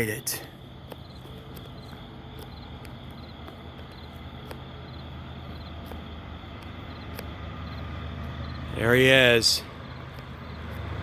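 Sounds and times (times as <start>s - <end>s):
faint cricket chirps: 0.0s - 11.0s
locomotive engine rumble: 0.0s - 11.0s.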